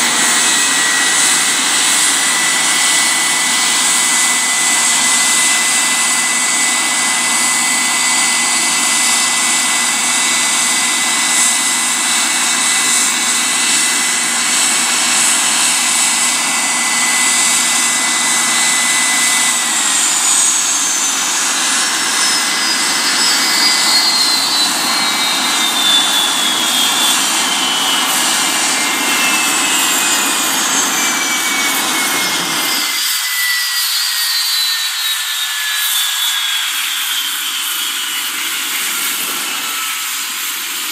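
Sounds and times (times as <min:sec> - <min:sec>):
engine whine falling in pitch: 0:00.0 - 0:40.6
jet engines idling whine: 0:00.0 - 0:40.9.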